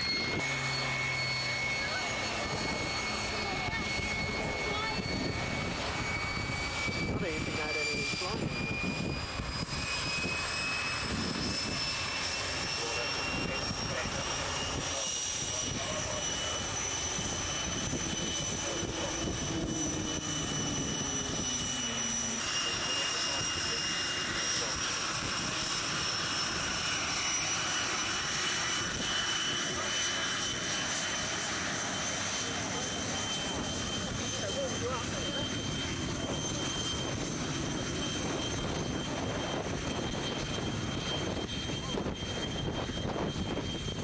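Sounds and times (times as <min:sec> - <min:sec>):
jet engine whine: 0:00.0 - 0:44.0.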